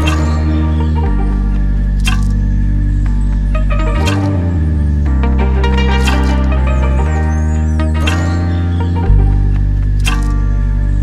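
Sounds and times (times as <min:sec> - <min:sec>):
background music with low chords: 0:00.0 - 0:11.0.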